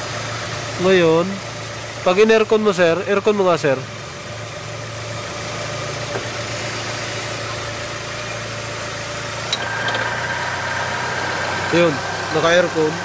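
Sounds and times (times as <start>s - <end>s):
car engine idling: 0.0s - 13.0s
thin steady whine: 0.0s - 13.0s.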